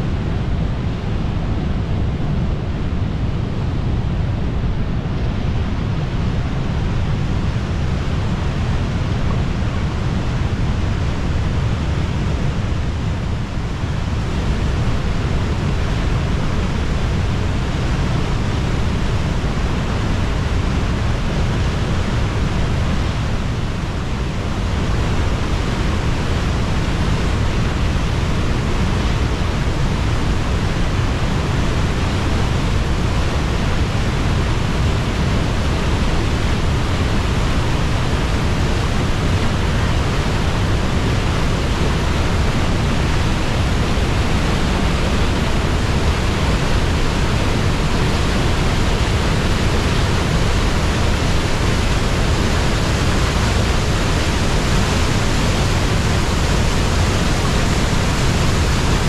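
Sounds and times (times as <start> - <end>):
water rushing over a weir: 0.0 - 59.0.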